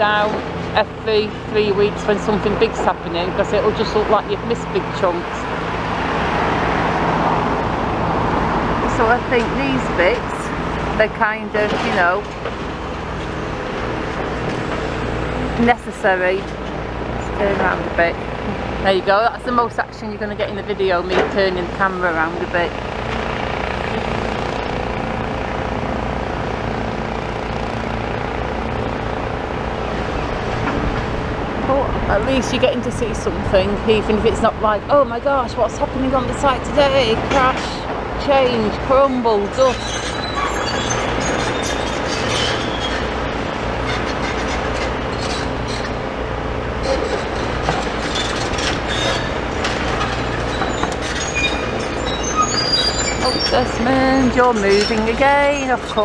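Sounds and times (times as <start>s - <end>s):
engine drone with low rumble: 0.0s - 56.0s.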